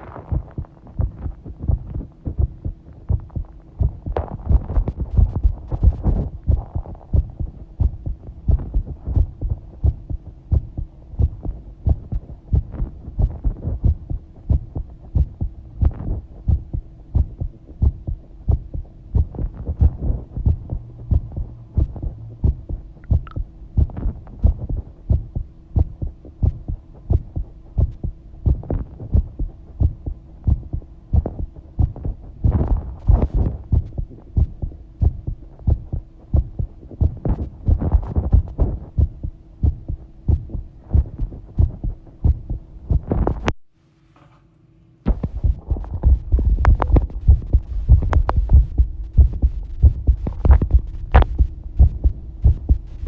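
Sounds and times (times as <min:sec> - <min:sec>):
heartbeat thumps: 0:00.0 - 0:43.6, 0:45.1 - 0:53.0
faint steady hum: 0:00.0 - 0:53.0.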